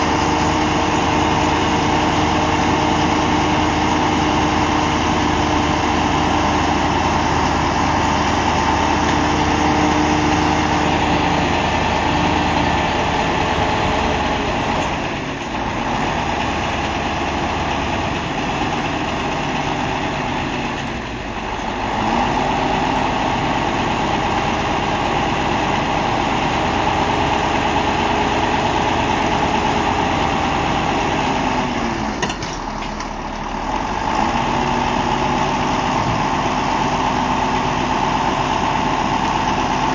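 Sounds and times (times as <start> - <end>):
heavy truck engine running: 0.0 - 39.9.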